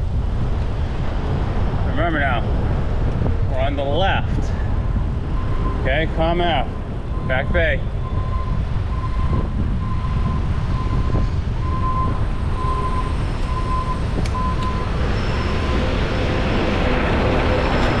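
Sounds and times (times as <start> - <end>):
wind and traffic rumble: 0.0 - 18.0.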